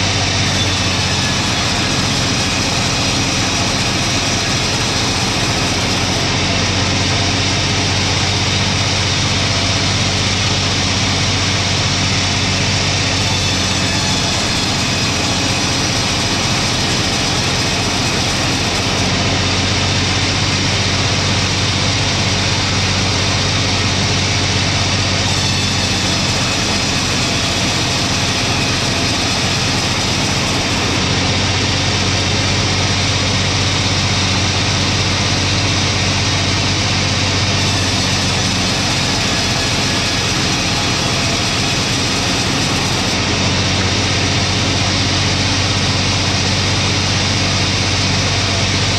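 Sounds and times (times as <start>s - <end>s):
low engine hum: 0.0s - 48.9s
sawmill sawing: 0.0s - 48.9s.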